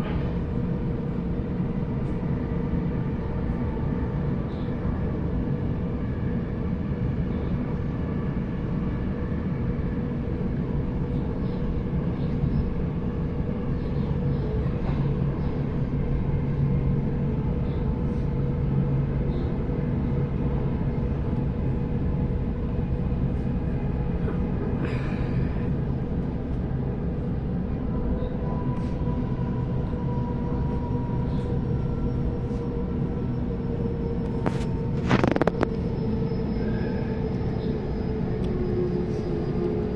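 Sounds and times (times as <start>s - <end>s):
constant hum: 0.0s - 39.9s
train wheels rumbling on track: 0.0s - 39.9s.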